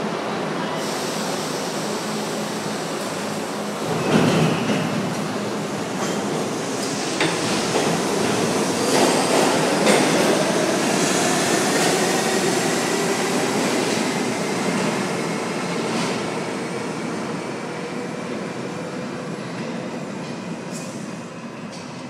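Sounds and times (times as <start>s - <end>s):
subway train clattering: 0.0s - 22.0s.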